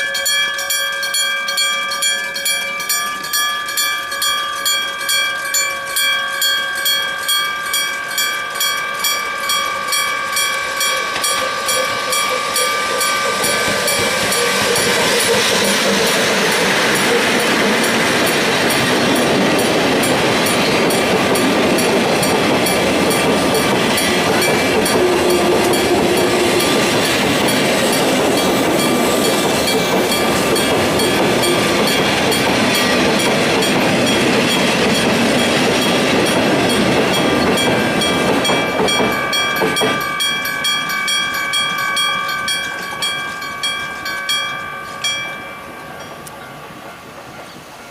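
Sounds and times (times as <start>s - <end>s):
crossing warning bell ringing: 0.0s - 47.9s
freight train wheels rumbling: 0.0s - 47.9s.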